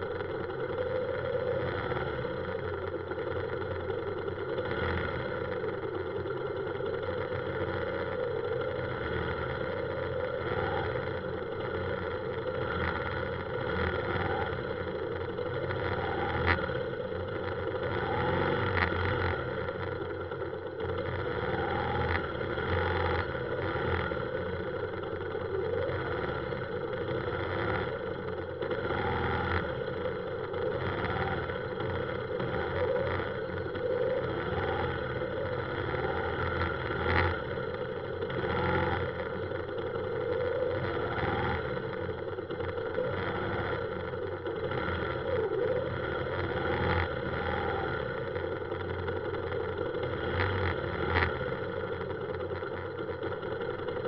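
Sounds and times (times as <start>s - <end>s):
motorbike engines idling: 0.0s - 54.0s.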